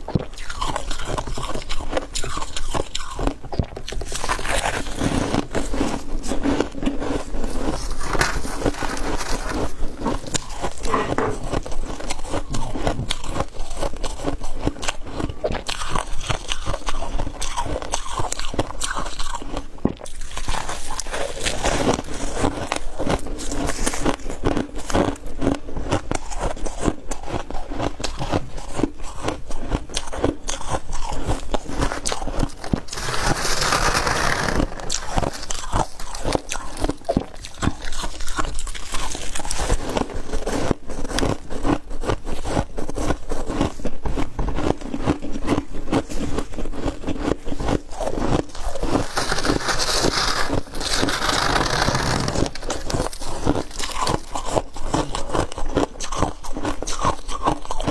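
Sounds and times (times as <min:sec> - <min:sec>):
crunching and chewing ice: 0:00.0 - 0:57.9.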